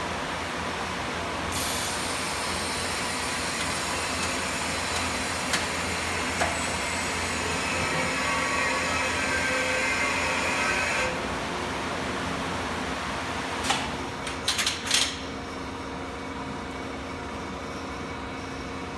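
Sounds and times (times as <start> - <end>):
machine mechanical hum and hiss: 0.0 - 18.9.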